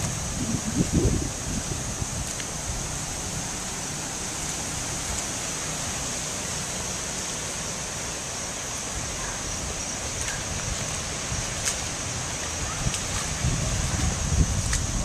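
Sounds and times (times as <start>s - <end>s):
wind and rain rushing hiss: 0.0s - 15.0s.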